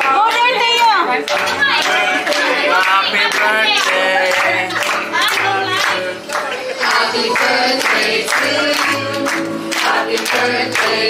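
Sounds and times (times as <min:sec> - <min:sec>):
people clapping along: 0:00.0 - 0:11.0
upbeat song with singing: 0:00.0 - 0:11.0.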